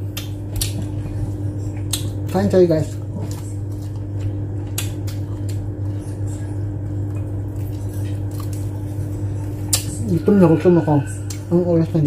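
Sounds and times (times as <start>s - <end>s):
person chewing food: 0.0s - 11.5s
steady low hum: 0.0s - 12.0s.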